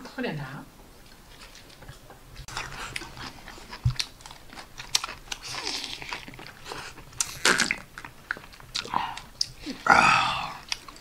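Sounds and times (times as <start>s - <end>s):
person chewing food: 1.0s - 11.0s.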